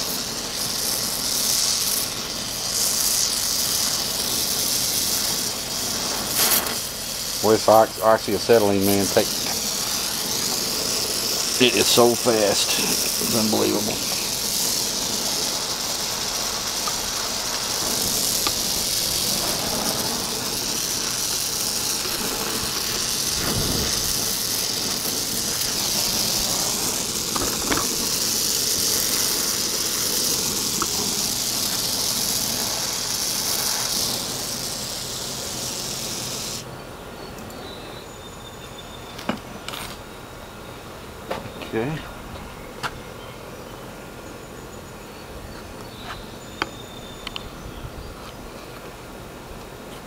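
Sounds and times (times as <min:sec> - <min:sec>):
torch flame hissing: 0:00.0 - 0:43.1, 0:43.9 - 0:50.0.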